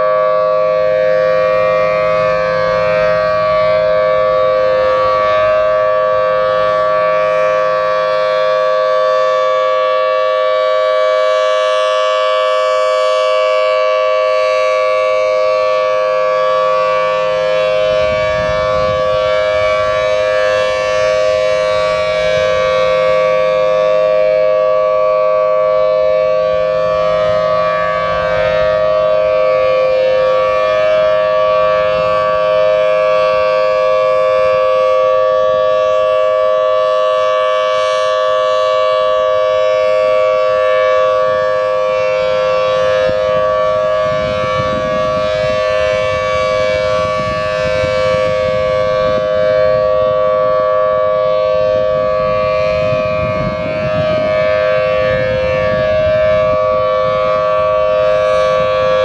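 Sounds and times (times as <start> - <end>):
warning siren steady chord: 0.0 - 59.0.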